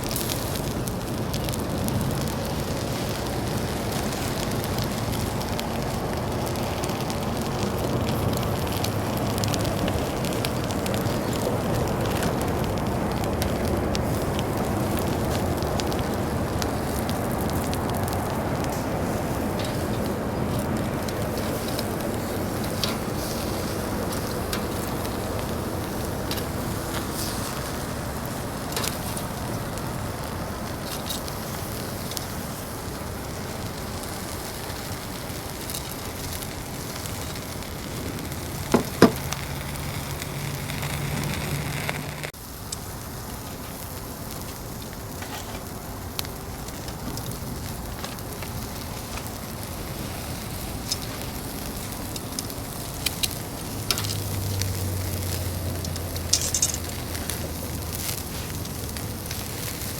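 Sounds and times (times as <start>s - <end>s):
fire crackling: 0.0s - 59.9s
food sizzling on a grill: 0.0s - 59.9s.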